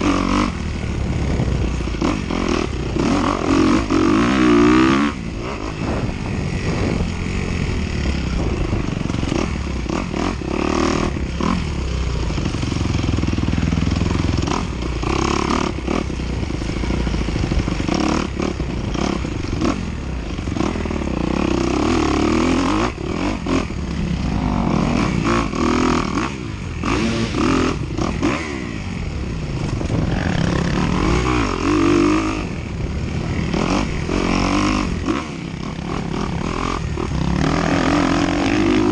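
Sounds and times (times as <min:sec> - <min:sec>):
bike rattling and knocking: 0:00.0 - 0:28.5, 0:29.2 - 0:38.9
dirt bike engine revving: 0:00.0 - 0:38.9
steady rushing noise: 0:00.0 - 0:38.9.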